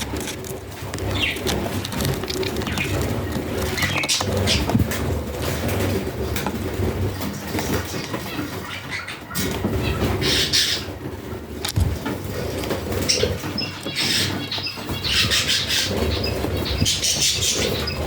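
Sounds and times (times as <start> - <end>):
budgerigars chirping: 0.9 - 5.0, 6.6 - 11.1, 12.0 - 18.0.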